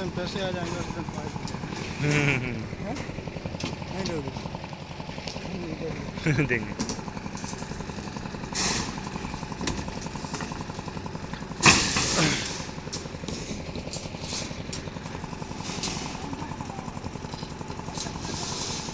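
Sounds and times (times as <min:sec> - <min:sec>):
engine chugging: 0:00.0 - 0:18.9.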